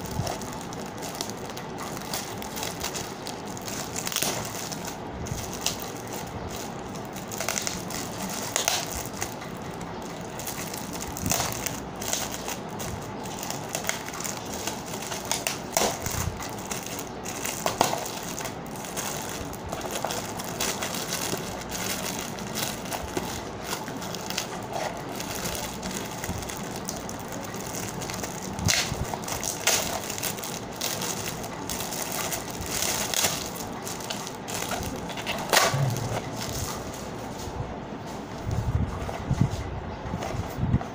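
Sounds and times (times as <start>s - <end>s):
cellophane crinkling: 0.0s - 39.0s.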